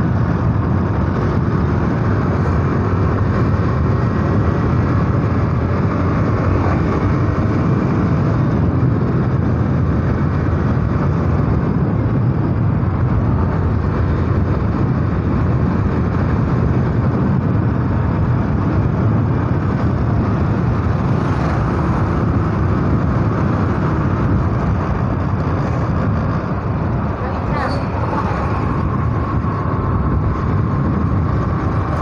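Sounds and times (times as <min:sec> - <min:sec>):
motorcycle engine running: 0:00.0 - 0:32.0
wind noise on microphone: 0:00.0 - 0:32.0.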